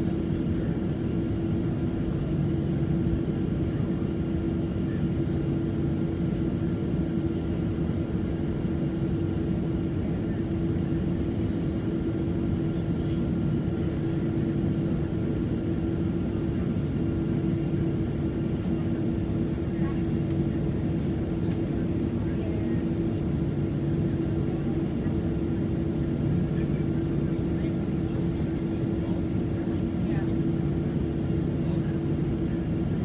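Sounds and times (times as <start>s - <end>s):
jet engines droning in cabin: 0.0s - 33.0s.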